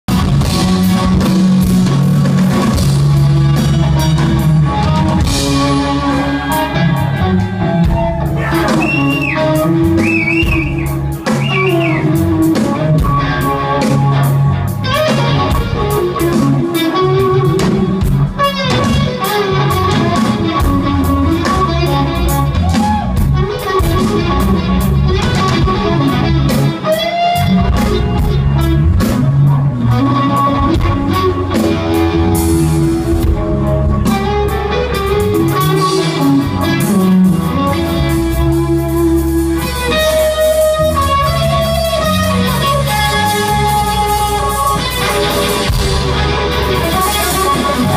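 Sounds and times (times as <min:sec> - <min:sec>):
bass guitar: 0:00.0 - 0:47.9
drums: 0:00.0 - 0:47.9
electric guitar bending notes: 0:00.1 - 0:47.9.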